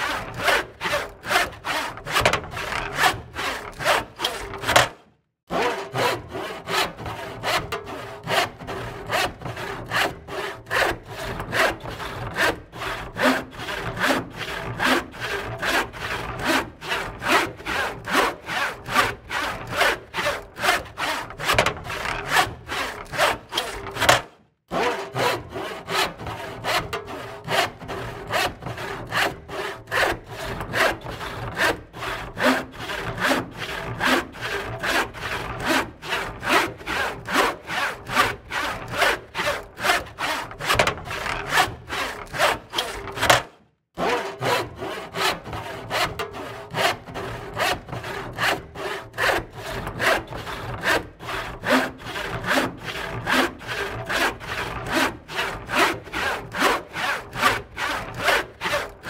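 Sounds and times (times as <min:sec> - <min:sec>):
hand saw cutting wood: 0:00.0 - 0:59.0.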